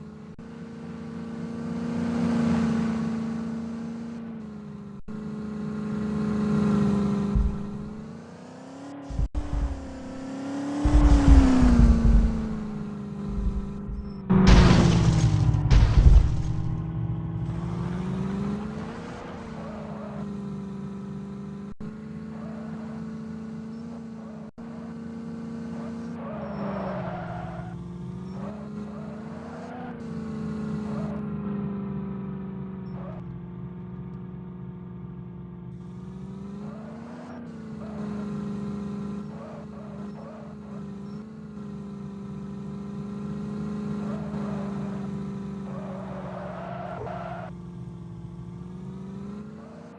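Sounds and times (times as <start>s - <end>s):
vehicle engine revving under load: 0.0s - 49.9s.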